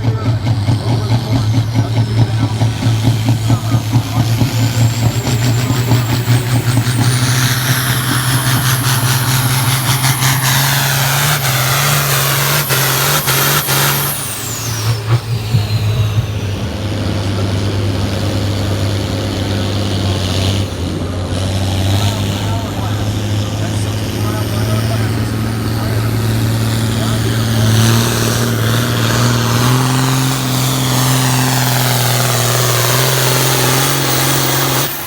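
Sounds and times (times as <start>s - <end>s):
tractor diesel engine roaring: 0.0s - 35.0s.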